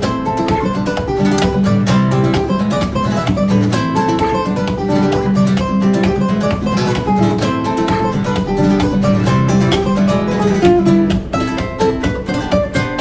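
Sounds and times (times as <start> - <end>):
acoustic guitar strumming and plucking: 0.0 - 13.0.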